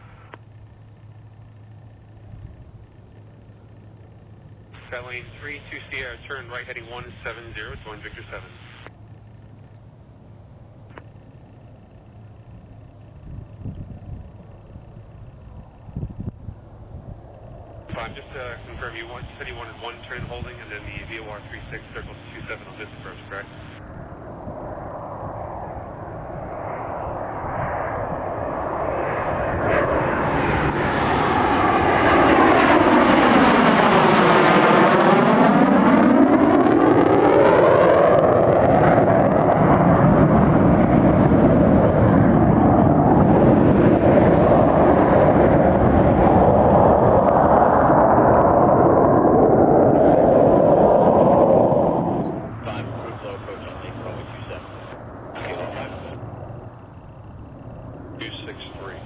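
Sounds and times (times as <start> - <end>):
airplane engines passing: 0.0 - 59.0.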